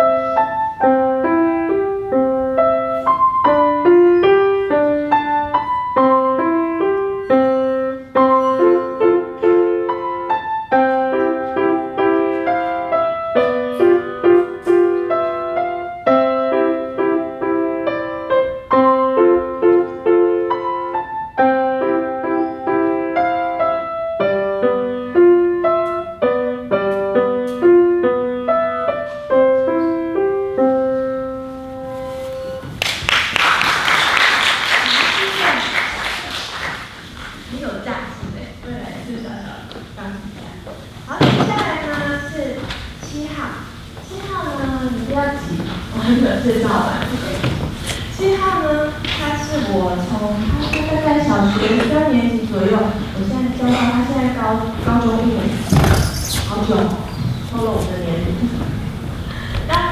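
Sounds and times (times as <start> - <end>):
solo piano piece: 0.0 - 33.3, 39.3 - 59.9.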